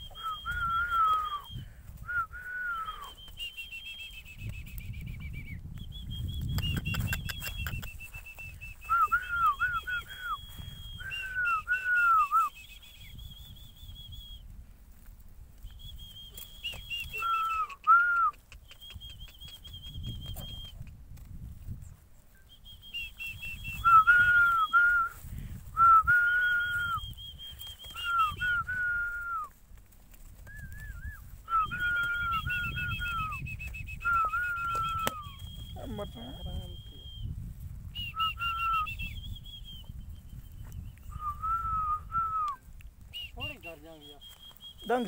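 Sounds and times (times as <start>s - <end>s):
lower whistled notes: 0.0s - 14.5s, 15.6s - 20.8s, 22.3s - 29.5s, 30.4s - 45.0s.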